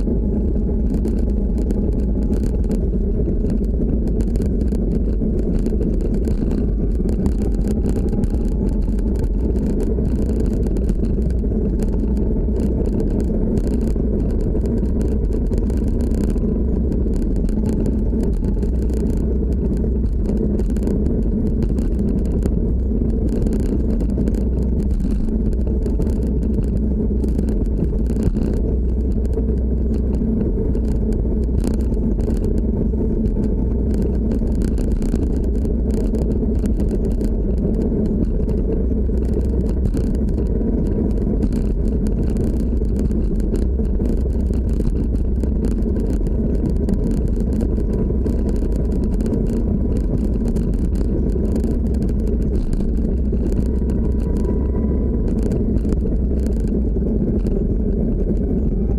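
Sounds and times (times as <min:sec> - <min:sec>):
faint steady hum: 0:00.0 - 0:58.9
skateboard wheels rumbling: 0:00.0 - 0:58.9.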